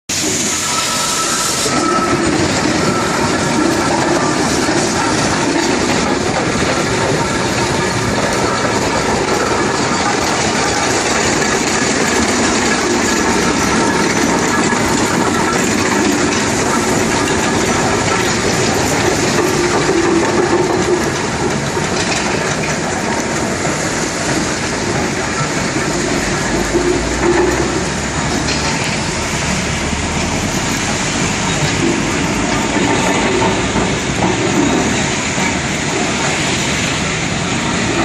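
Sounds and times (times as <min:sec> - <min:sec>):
steam engine running: 0:00.1 - 0:38.0.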